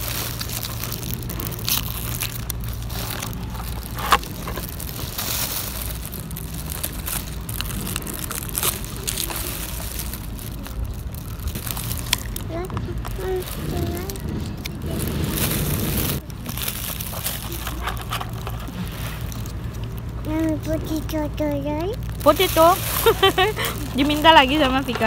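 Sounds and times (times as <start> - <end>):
crinkling and crunching handling noise: 0.0 - 25.0
steady low hum: 0.0 - 25.0.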